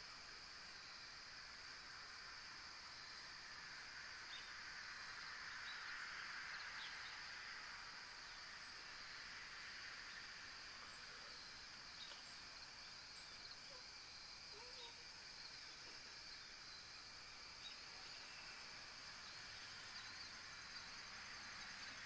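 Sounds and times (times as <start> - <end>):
faint background hiss: 0.0 - 22.0.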